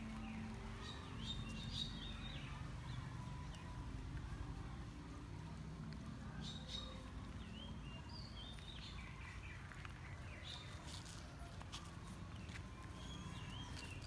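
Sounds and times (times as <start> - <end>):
small birds chirping: 0.0 - 4.8, 5.9 - 14.0.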